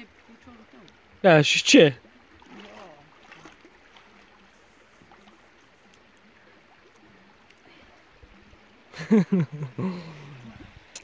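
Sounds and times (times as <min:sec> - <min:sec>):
feet wading in water: 0:00.0 - 0:11.0
stream running over rocks: 0:00.0 - 0:11.0.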